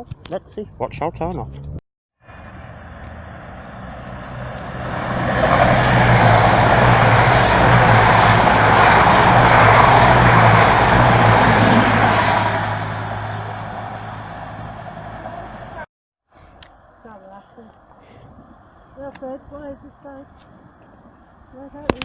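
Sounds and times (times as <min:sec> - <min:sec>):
train engine hum and rumble: 0:01.4 - 0:15.9, 0:18.5 - 0:22.0.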